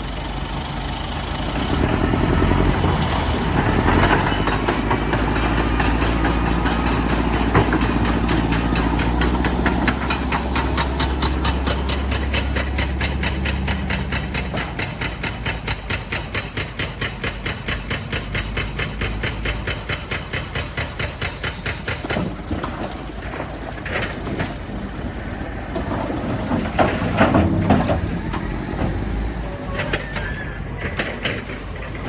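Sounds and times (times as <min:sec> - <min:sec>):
heavy machinery clattering: 0:01.5 - 0:32.0
machinery knocking and grinding: 0:01.6 - 0:32.0.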